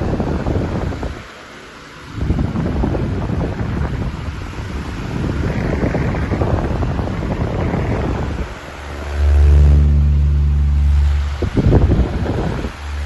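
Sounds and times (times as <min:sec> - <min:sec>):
fan airflow buffeting microphone: 0:00.0 - 0:13.0
loud steady low hum: 0:00.0 - 0:13.0.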